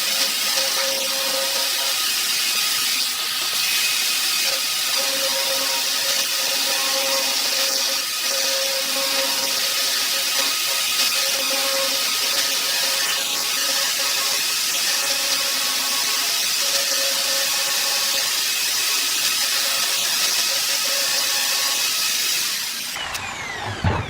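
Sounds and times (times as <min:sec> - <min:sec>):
electric drill running: 0:00.0 - 0:24.0.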